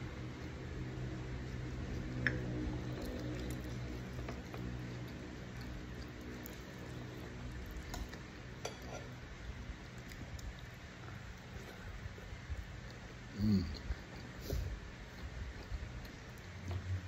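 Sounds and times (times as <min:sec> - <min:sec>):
chewing: 0:00.4 - 0:09.1, 0:09.8 - 0:12.2, 0:12.8 - 0:17.0.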